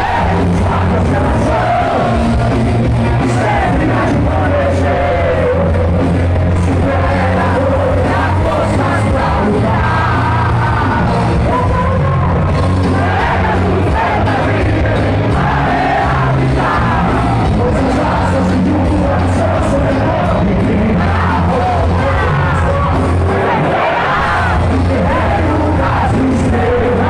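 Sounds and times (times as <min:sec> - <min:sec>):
heavy metal band playing: 0:00.0 - 0:27.0
person singing: 0:00.0 - 0:27.0.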